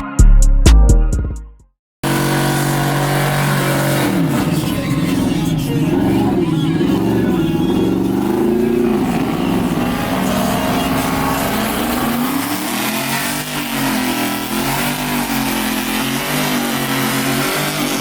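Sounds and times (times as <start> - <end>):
pickup truck engine revving: 2.0 - 18.0.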